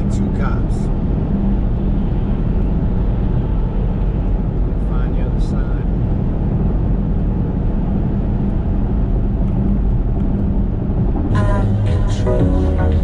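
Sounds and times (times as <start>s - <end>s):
car cruising at highway speed: 0.0s - 13.0s.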